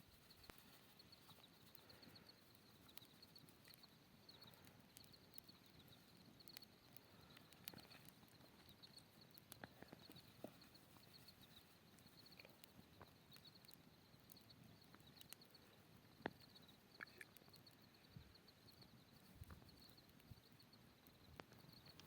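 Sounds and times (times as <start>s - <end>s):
rapid high chirping: 0.0s - 22.0s
small clicks and taps: 0.4s - 20.6s, 21.2s - 22.0s.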